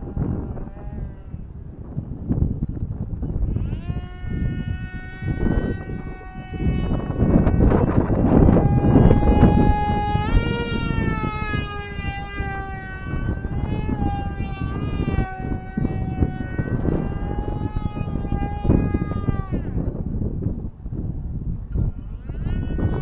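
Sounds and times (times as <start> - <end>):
electric motor and propeller whining: 0.0 - 23.0
wind rumble on microphone: 0.0 - 23.0.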